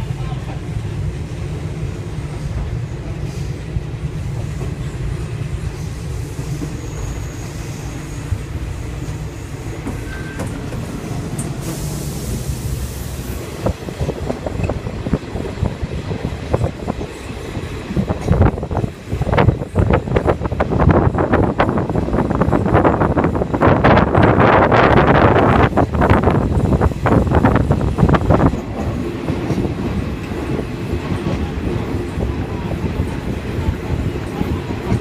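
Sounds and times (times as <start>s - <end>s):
train low rumble: 0.0s - 35.0s.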